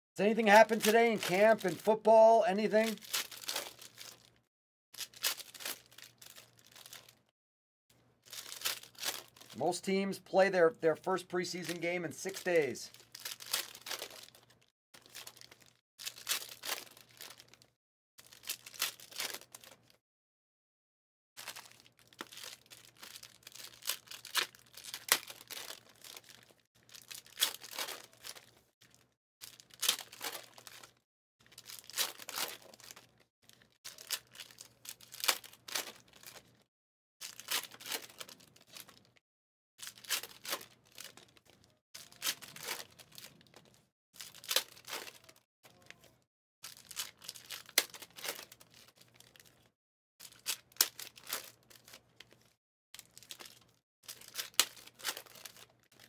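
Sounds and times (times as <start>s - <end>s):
foil wrappers tearing and crinkling: 0.3s - 2.0s, 2.6s - 4.4s, 5.0s - 7.2s, 8.3s - 9.6s, 11.6s - 17.6s, 18.2s - 19.8s, 21.4s - 36.5s, 37.2s - 39.2s, 39.8s - 46.0s, 46.6s - 56.0s.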